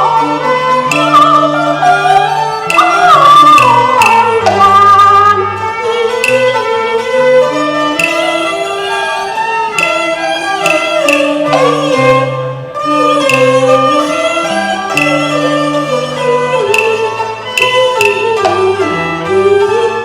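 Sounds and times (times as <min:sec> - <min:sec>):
sharp percussive strokes: 0:00.0 - 0:19.8
bowed fiddle melody: 0:00.0 - 0:20.0.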